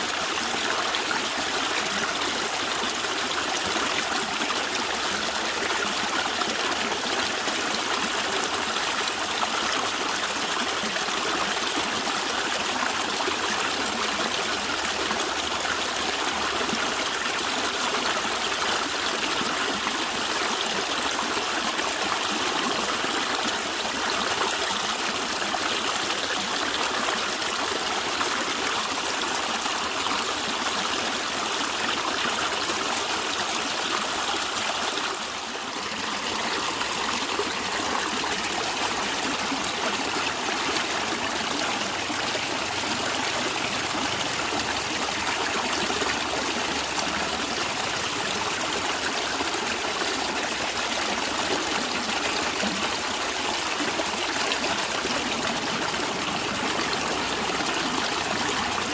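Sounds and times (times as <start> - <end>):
stream water gurgling: 0.0 - 58.9.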